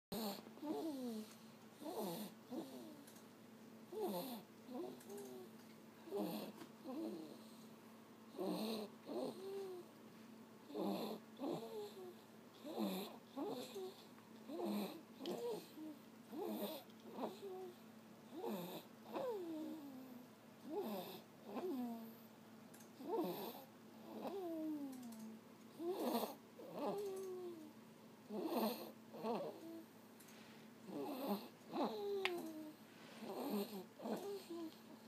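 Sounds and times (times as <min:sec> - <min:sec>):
squeaky snoring: 0:00.2 - 0:03.0, 0:03.9 - 0:05.5, 0:06.1 - 0:07.5, 0:08.3 - 0:09.9, 0:10.7 - 0:22.1, 0:23.0 - 0:25.2, 0:25.8 - 0:27.7, 0:28.3 - 0:29.8, 0:30.9 - 0:34.7.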